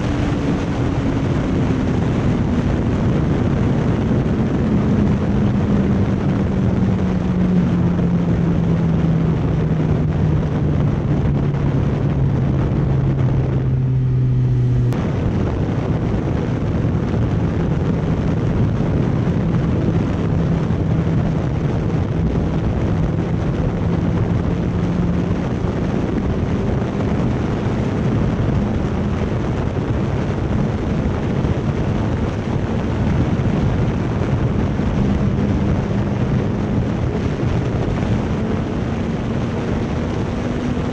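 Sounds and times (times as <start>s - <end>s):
motorcycle engine running: 0.0s - 40.9s
wind rush over microphone: 0.0s - 40.9s.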